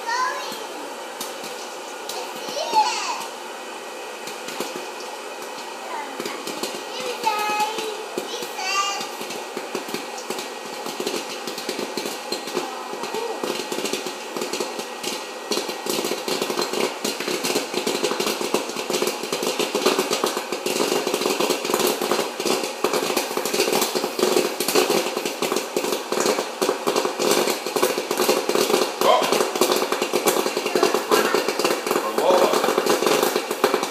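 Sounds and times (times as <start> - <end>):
popcorn kernels popping: 0.0 - 33.9
popcorn popper fan blowing: 0.0 - 33.9
popcorn hitting steel bowl: 4.1 - 33.9.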